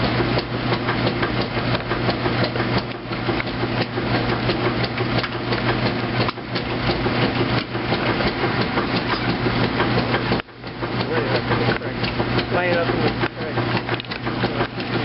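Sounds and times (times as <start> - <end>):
washing machine agitating: 0.0 - 15.0.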